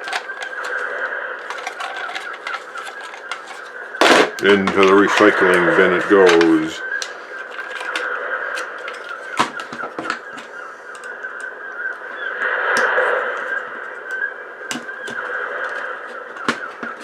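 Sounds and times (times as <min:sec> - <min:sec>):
small plastic parts clicking: 0:00.0 - 0:11.5, 0:12.8 - 0:17.0.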